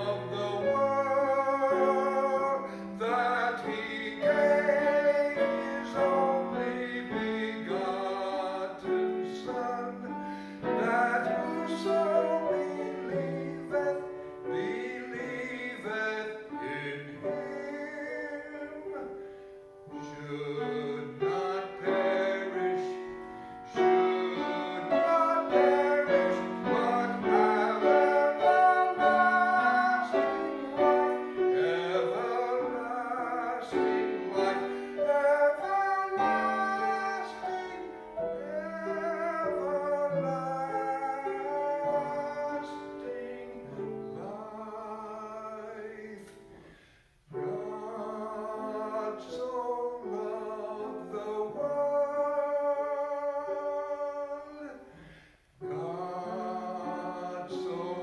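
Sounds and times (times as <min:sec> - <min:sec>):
piano accompaniment: 0:00.0 - 0:58.0.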